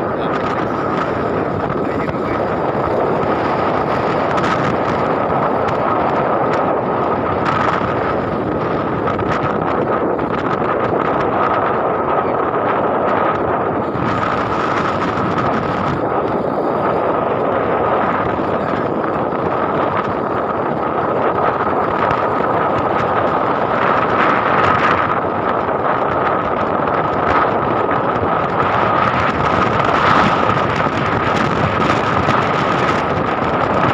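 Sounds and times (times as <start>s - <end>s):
motorcycle engine running: 0.0s - 33.9s
thin steady whine: 0.0s - 33.9s
wind rushing over microphone: 0.0s - 33.9s.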